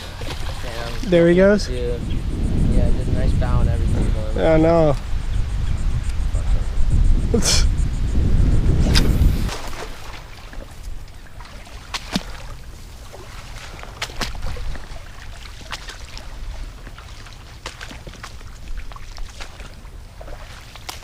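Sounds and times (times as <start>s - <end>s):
wind buffeting microphone: 0.0s - 20.3s.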